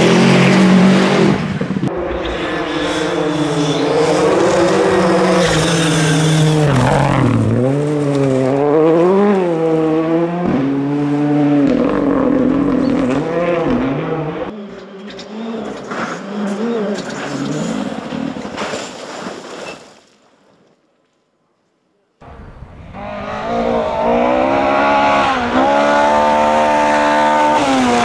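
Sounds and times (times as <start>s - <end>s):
rally car engine revving: 0.0s - 18.4s, 22.7s - 28.0s
distant rally car: 0.0s - 18.6s, 22.2s - 28.0s.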